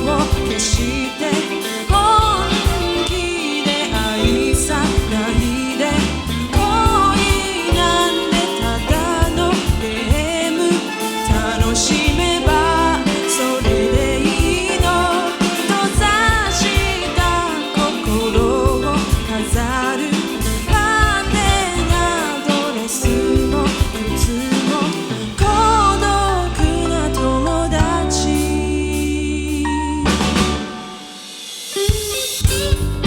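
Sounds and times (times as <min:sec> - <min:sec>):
person singing: 0:00.0 - 0:31.2
live band playing: 0:00.0 - 0:33.0.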